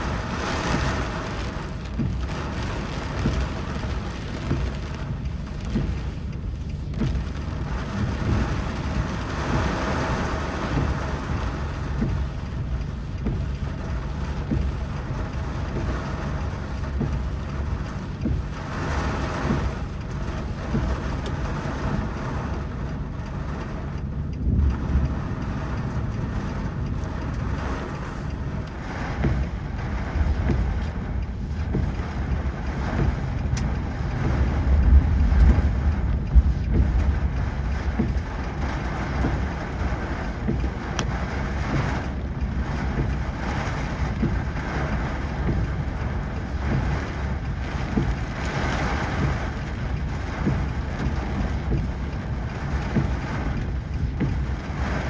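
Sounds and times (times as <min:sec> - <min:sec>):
motor vehicle engine rumbling: 0:00.0 - 0:55.0.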